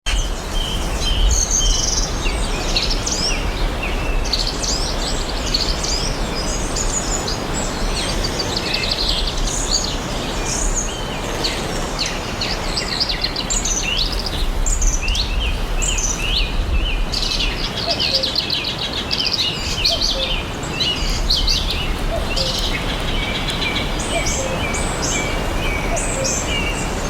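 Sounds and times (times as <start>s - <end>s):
forest birds chirping: 0.1s - 27.0s
rushing background noise: 0.1s - 27.0s.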